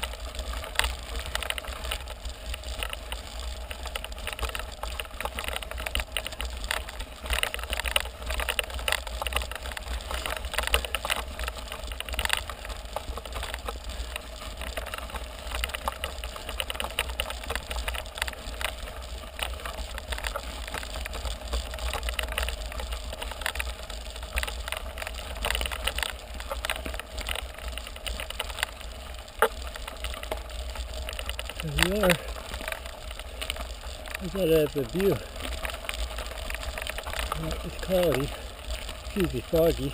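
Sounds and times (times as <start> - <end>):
bike clicking and rattling: 0.0 - 39.9
bike tyres crunching on gravel: 0.0 - 39.9.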